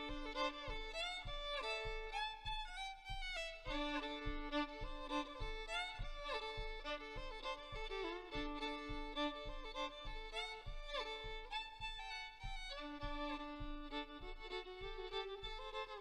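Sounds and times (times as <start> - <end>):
fiddle melody: 0.0 - 16.0
soft low thumps: 0.0 - 16.0.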